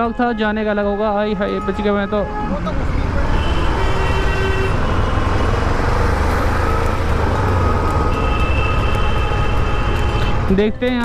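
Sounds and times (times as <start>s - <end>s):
vehicle horns: 0.0s - 10.6s
traffic engines and road noise: 0.0s - 11.0s.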